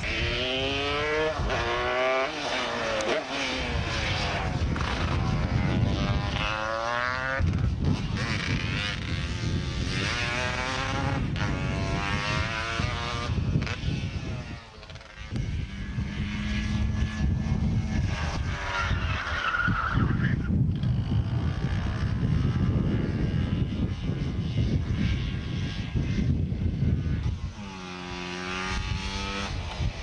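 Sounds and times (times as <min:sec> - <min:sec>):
two-stroke engines revving: 0:00.0 - 0:19.4, 0:20.8 - 0:30.0.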